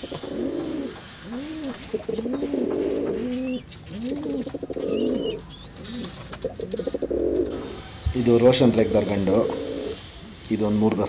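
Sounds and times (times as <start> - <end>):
pigeon cooing: 0.0 - 10.4.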